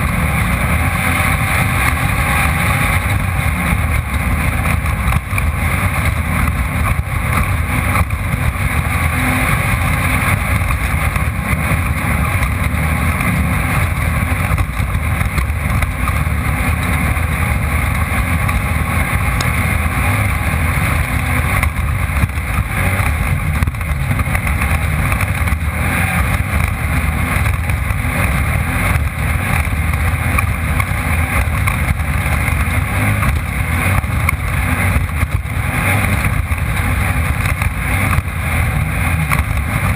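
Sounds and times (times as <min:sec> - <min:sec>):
race car engine roaring: 0:00.0 - 0:39.9
rough terrain noise: 0:00.0 - 0:39.9.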